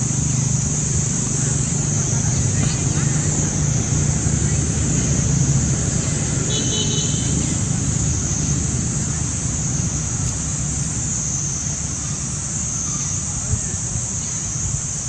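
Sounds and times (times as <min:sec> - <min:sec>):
high wavering hiss: 0:00.0 - 0:15.0.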